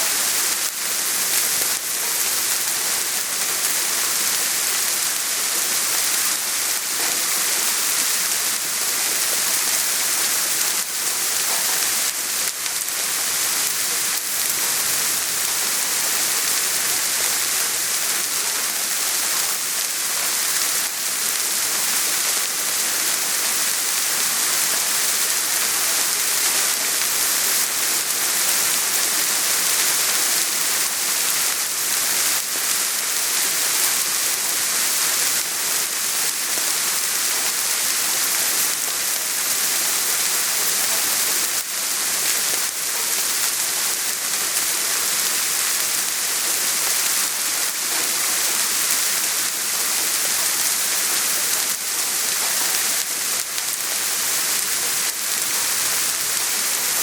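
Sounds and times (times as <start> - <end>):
raindrops pattering: 0.0 - 57.0
steady rain hiss: 0.0 - 57.0.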